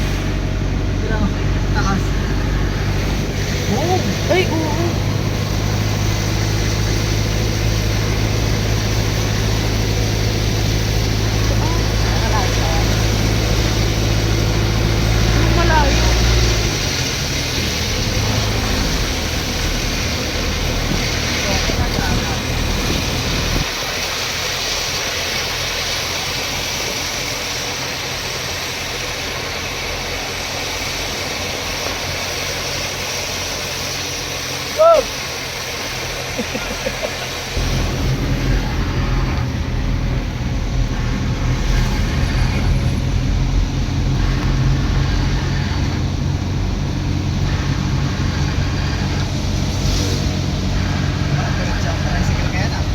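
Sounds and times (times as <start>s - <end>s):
constant broad hiss: 0.0s - 52.9s
constant noisy rush: 0.0s - 52.9s
vehicle engine humming: 0.0s - 52.9s.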